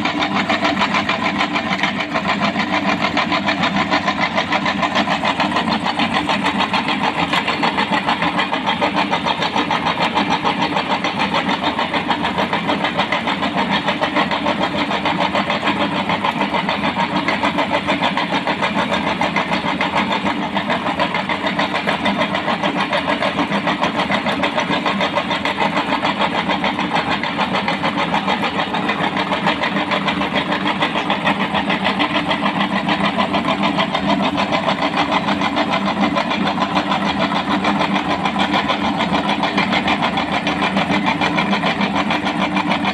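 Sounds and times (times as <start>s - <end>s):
electric meat grinder whirring: 0.0s - 42.9s.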